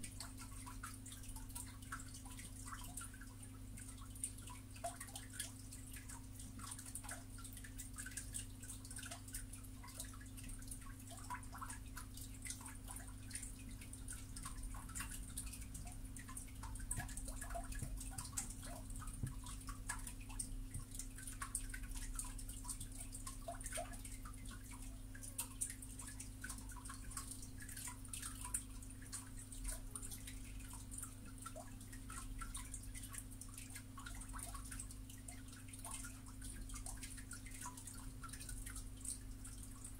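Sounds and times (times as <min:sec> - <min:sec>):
small clicks and ticks: 0:00.0 - 0:39.9.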